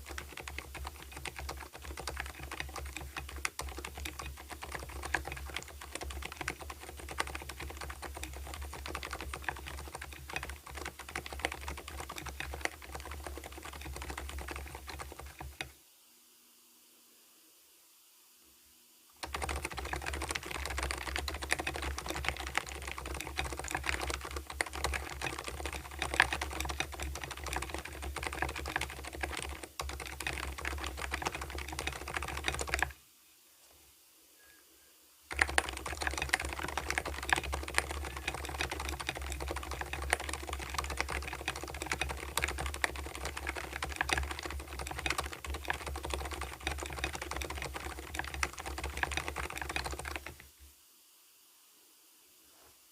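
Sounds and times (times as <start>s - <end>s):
keyboard typing: 0.0s - 15.8s, 19.2s - 33.0s, 35.3s - 50.5s.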